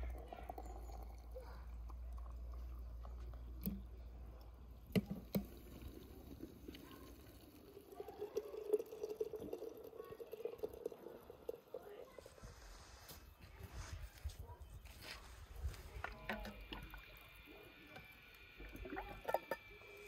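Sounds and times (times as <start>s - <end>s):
water pouring into glass jar: 0.0s - 12.4s, 16.0s - 20.0s.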